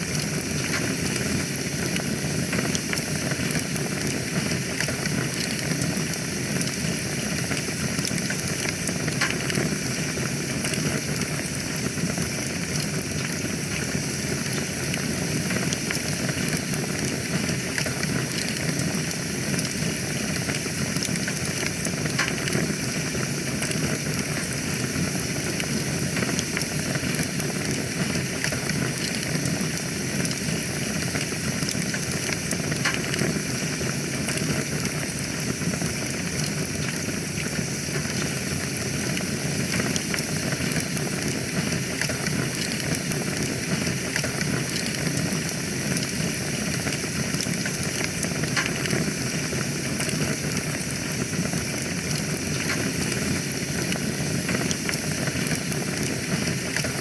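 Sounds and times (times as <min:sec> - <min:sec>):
fire crackles and pops: 0:00.0 - 0:57.0
wood fire hissing: 0:00.0 - 0:57.0.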